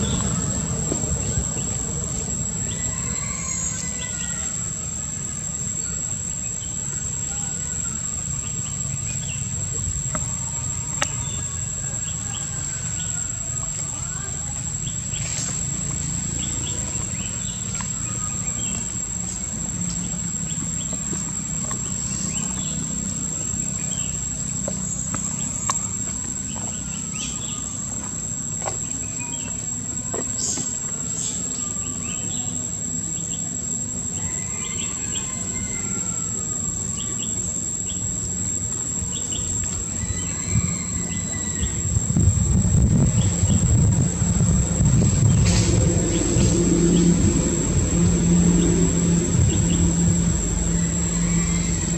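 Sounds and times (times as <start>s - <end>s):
insects droning: 0.0s - 51.9s
low background rumble: 0.0s - 51.9s.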